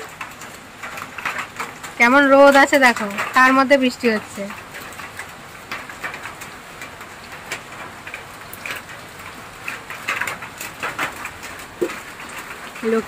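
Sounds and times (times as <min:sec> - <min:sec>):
rain falling: 0:00.0 - 0:13.0
raindrop ticks: 0:00.0 - 0:13.0.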